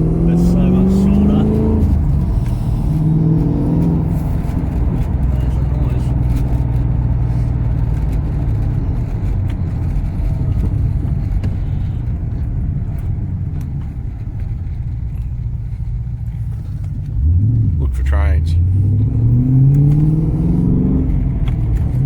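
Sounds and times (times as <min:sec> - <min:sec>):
car engine low drone: 0:00.0 - 0:22.0
tyre and road noise: 0:00.0 - 0:22.0.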